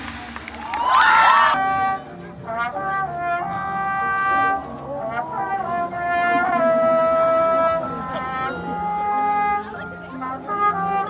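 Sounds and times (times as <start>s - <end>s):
marching band brass playing: 0.0s - 11.0s.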